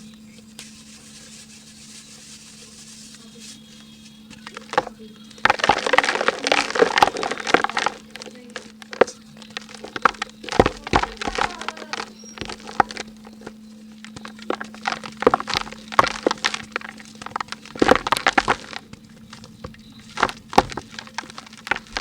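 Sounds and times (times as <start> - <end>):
dry mud crumbling and crackling: 3.2 - 22.0.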